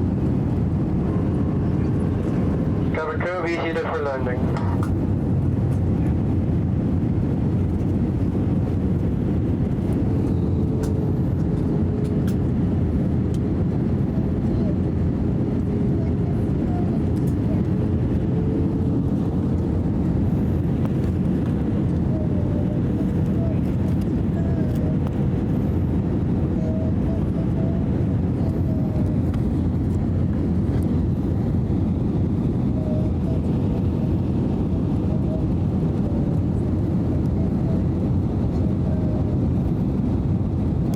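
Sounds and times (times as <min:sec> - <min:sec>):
airliner engines rumbling: 0:00.0 - 0:40.9.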